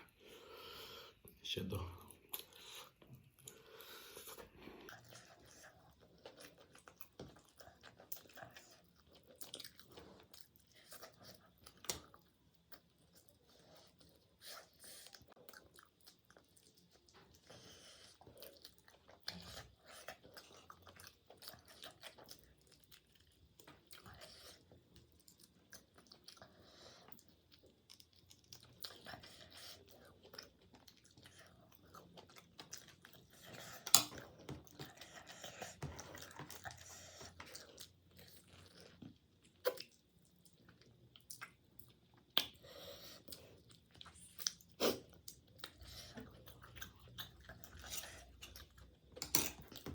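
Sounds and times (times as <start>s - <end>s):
chewing and crunching food: 1.8s - 49.9s.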